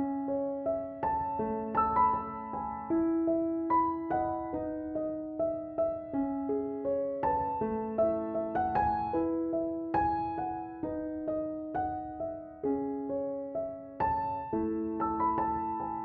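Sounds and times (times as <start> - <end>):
gentle solo piano melody: 0.0 - 16.0.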